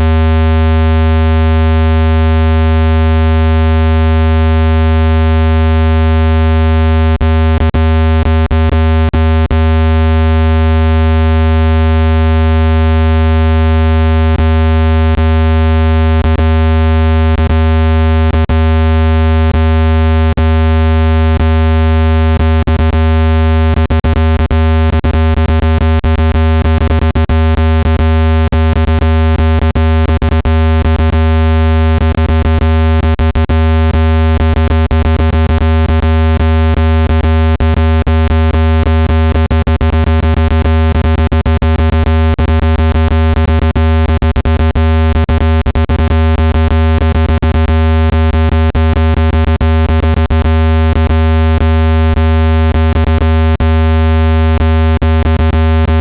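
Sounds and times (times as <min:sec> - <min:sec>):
low-pitched electronic hum: 0:00.0 - 0:56.0.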